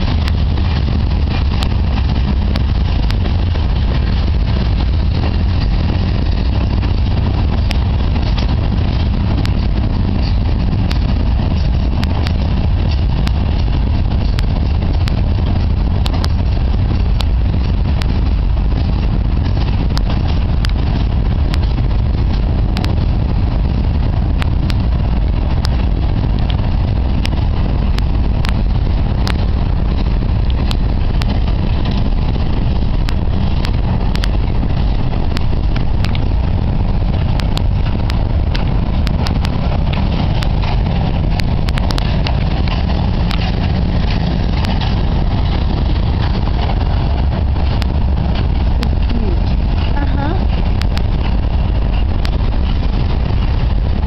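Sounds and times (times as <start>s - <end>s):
sharp clicks of train wheels: 0.0s - 54.0s
train wheels rumbling on rails: 0.0s - 54.0s.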